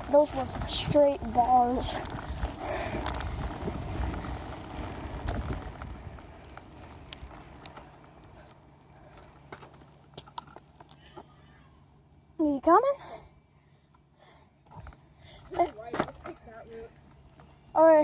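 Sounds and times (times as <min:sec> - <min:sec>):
bike rattles and clicks: 0:00.0 - 0:11.6, 0:14.6 - 0:18.0
wind and road rumble: 0:00.0 - 0:18.0.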